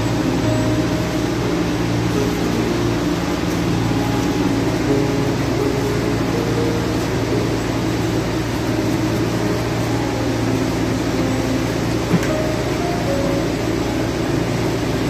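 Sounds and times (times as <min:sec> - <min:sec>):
droning background music: 0:00.0 - 0:15.0.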